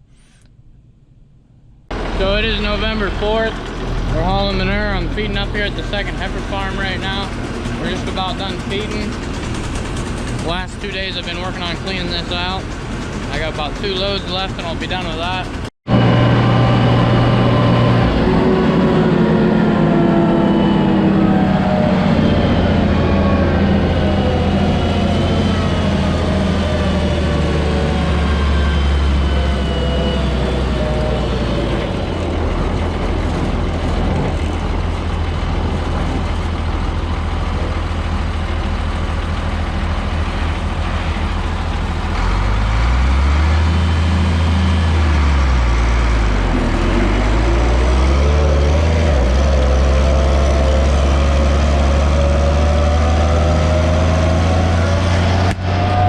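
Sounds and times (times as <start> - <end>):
diesel tractor engine running: 1.9 - 56.0.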